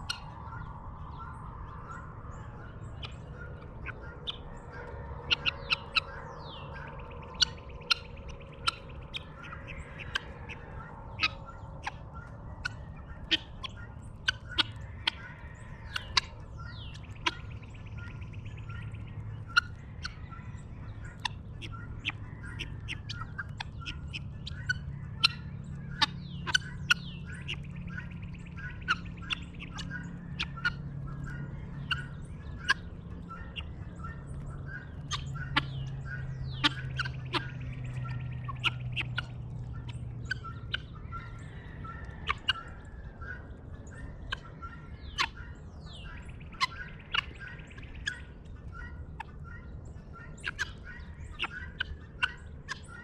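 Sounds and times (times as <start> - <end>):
birds chirping: 0.0 - 53.0
harsh rattling bird calls: 0.0 - 53.0
steady low hum: 0.0 - 53.0.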